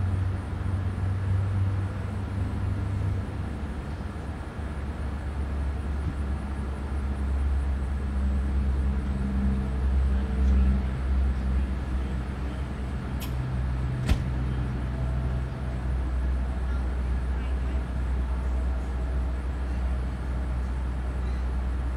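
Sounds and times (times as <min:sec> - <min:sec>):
faint hum: 0:00.0 - 0:21.9
low outdoor rumble: 0:00.0 - 0:21.9.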